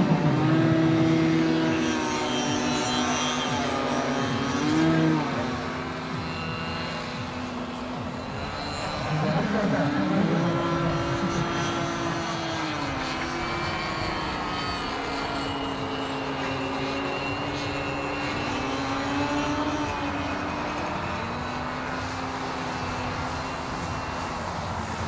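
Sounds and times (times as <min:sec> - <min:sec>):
model plane engine buzzing: 0:00.0 - 0:25.0.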